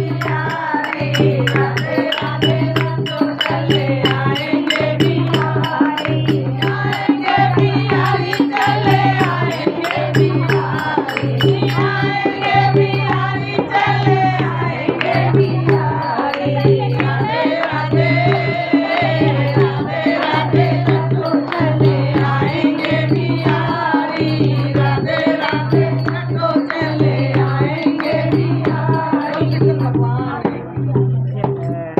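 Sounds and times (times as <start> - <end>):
women singing devotional song: 0.0 - 31.8
hand drum beat: 0.0 - 31.9
metallic jingling percussion: 0.0 - 31.9.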